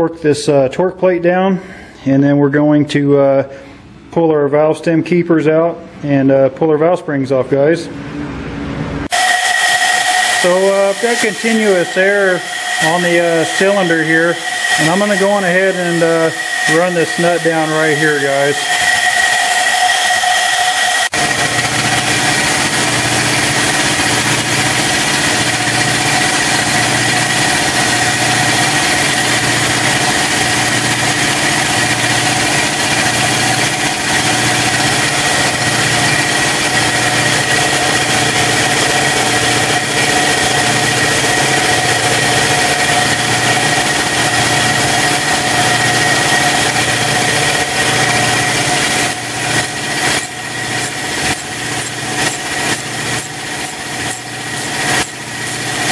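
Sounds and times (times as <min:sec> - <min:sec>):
air compressor running: 0:07.9 - 0:55.9.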